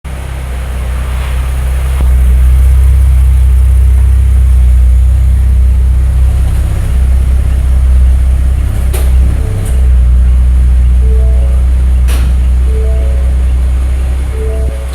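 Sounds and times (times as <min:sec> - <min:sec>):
car exhaust deep rumble: 0:00.1 - 0:14.9.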